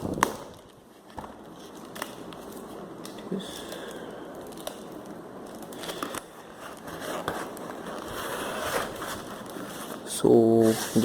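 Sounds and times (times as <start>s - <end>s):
plastic packaging crinkling and tearing: 1.4s - 11.0s.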